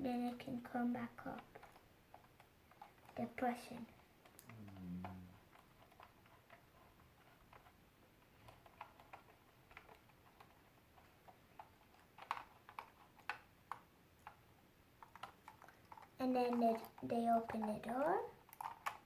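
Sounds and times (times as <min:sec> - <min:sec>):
small plastic clicks and taps: 0:01.2 - 0:14.4, 0:15.0 - 0:19.0.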